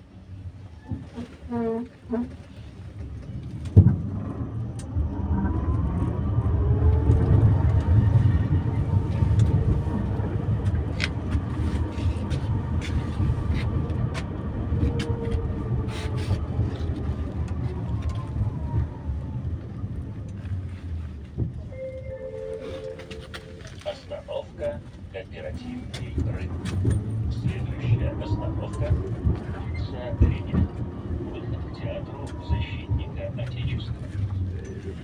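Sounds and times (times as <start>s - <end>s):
tram wheels rumbling on rails: 0.0s - 35.0s.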